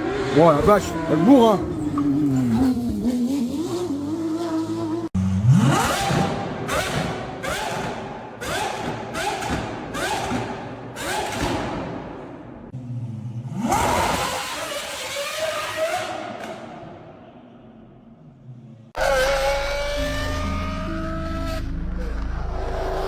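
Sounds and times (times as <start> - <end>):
engine revving and blipping: 0.0 - 11.9, 12.7 - 16.8, 19.0 - 23.0.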